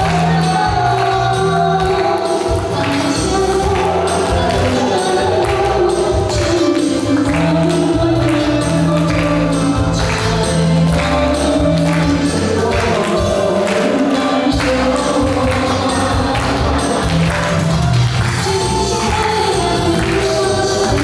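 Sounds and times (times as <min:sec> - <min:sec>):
music with steady beat: 0:00.0 - 0:21.0.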